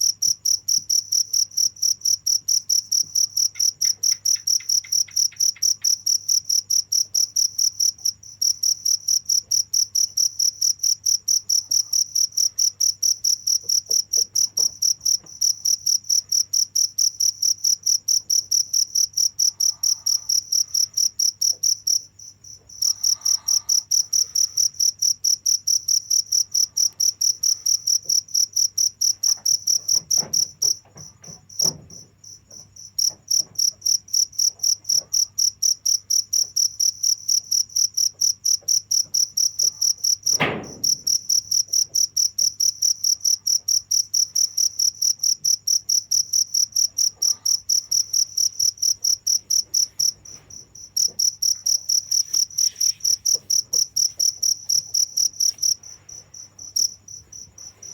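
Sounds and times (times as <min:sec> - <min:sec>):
cricket chirping: 0:00.0 - 0:57.9.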